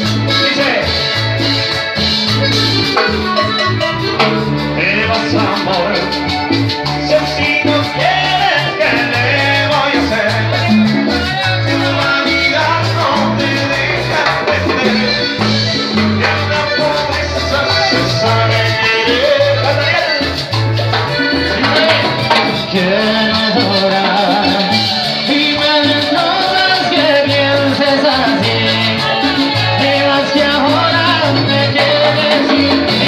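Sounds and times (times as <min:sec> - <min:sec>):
man singing: 0:00.0 - 0:01.4, 0:04.6 - 0:33.0
electric bass notes: 0:00.0 - 0:33.0
live band playing latin dance music: 0:00.0 - 0:33.0.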